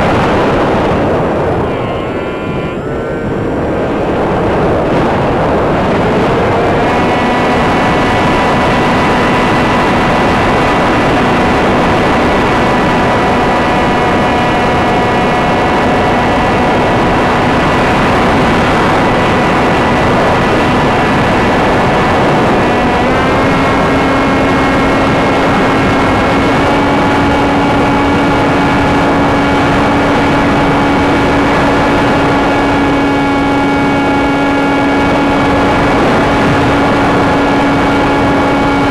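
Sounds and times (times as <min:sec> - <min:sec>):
electric motor whine: 0:00.0 - 0:38.9
wind rushing: 0:00.0 - 0:38.9.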